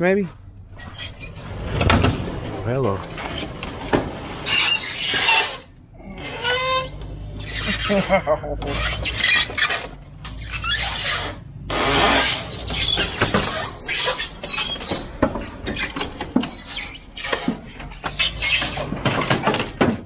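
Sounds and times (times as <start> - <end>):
trailer scraping against fence: 0.7 - 20.0.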